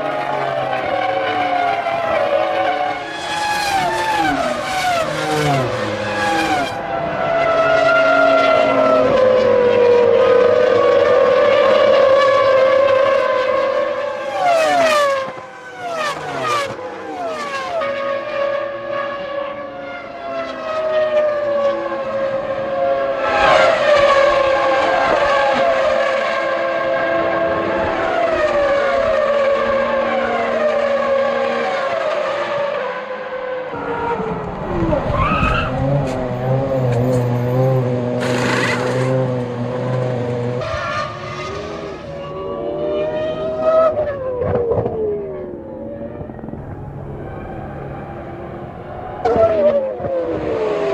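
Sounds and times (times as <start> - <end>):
racing cars passing by: 0.0 - 50.9.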